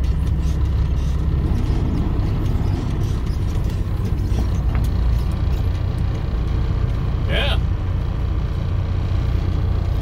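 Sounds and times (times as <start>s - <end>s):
diesel engine rumble: 0.0s - 10.0s.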